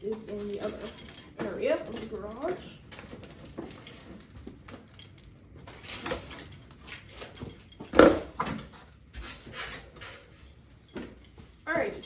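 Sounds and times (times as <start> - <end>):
bicycle rattles and scrapes: 0.0 - 12.0.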